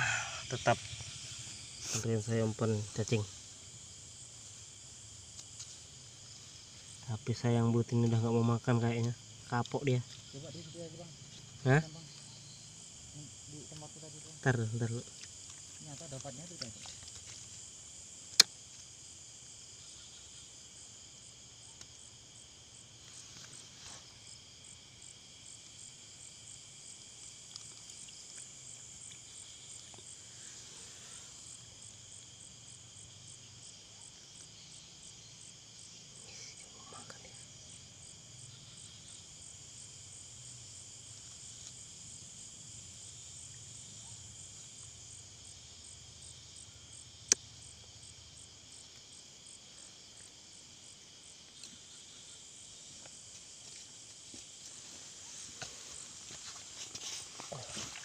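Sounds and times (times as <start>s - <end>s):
night insects pulsing chorus: 0.0s - 58.0s.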